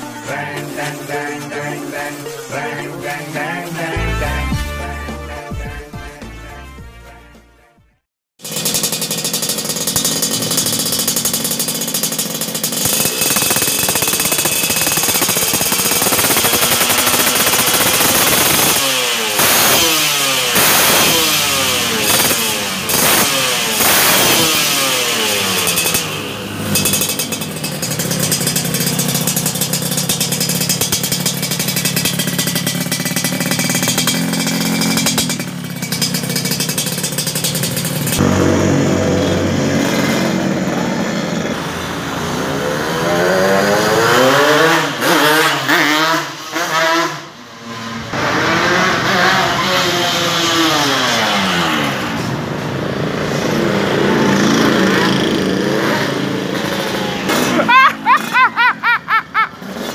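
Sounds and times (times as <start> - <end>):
motorcycle engine revving and idling: 0.0 - 4.8, 8.4 - 59.9.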